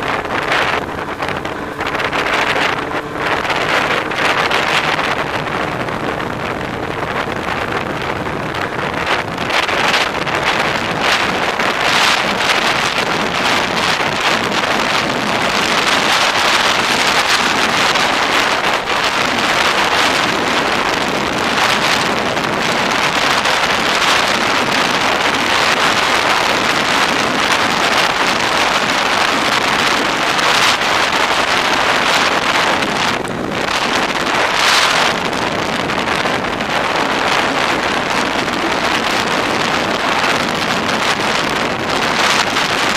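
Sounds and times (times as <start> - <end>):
snowmobile engine and track: 0.0 - 42.9
wind buffeting microphone: 0.0 - 42.9.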